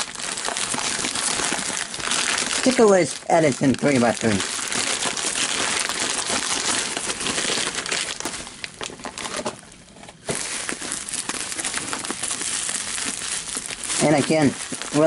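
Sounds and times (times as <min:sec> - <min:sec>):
bubble wrap and plastic crinkling: 0:00.0 - 0:15.0.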